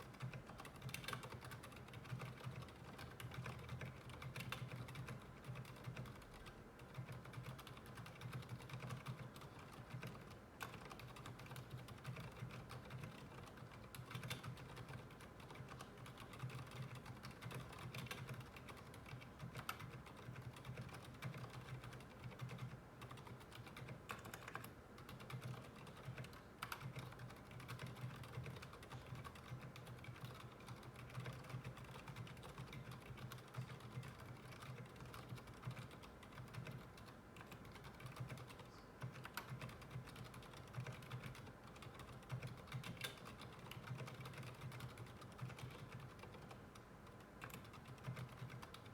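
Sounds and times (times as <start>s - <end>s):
typing on mechanical keyboard: 0.0s - 48.9s.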